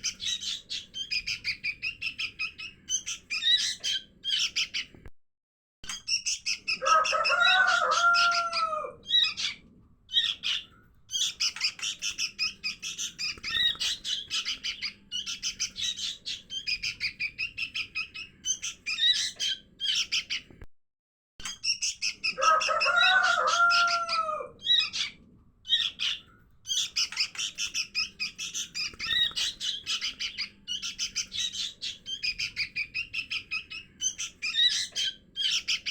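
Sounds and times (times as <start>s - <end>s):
bird chicks chirping: 0.0s - 5.0s, 5.9s - 20.6s, 21.4s - 35.9s.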